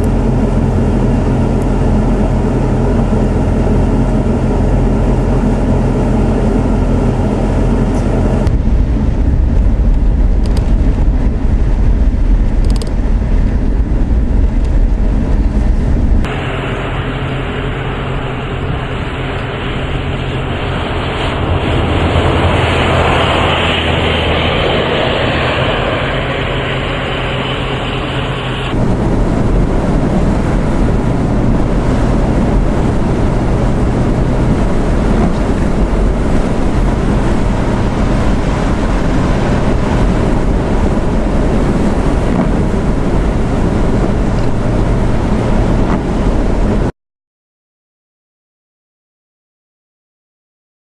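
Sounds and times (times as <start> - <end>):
deep low rumble: 0.0 - 46.9
storm wind buffeting microphone: 0.0 - 46.9.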